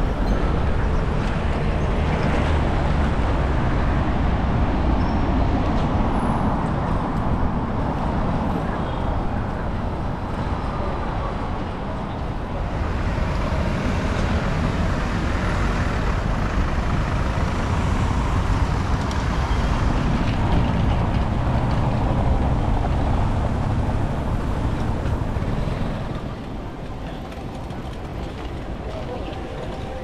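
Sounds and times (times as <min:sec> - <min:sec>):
city traffic: 0:00.0 - 0:30.0
low rumble of bicycle ride: 0:00.0 - 0:30.0.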